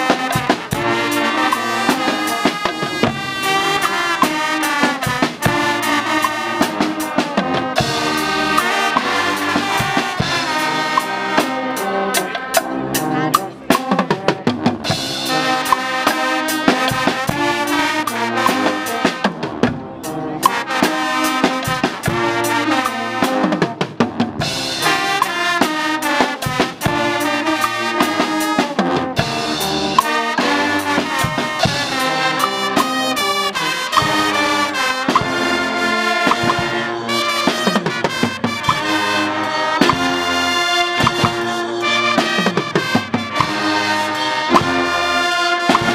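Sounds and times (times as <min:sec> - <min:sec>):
brass band playing: 0:00.0 - 0:45.9
drum kit with cymbals: 0:00.0 - 0:45.9.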